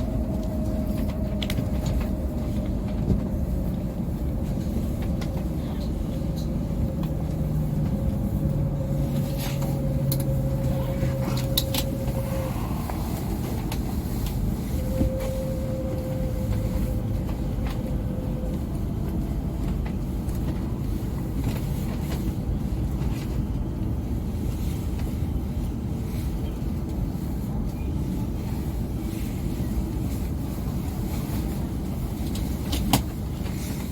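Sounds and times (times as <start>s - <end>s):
train cabin rumble: 0.0s - 33.9s.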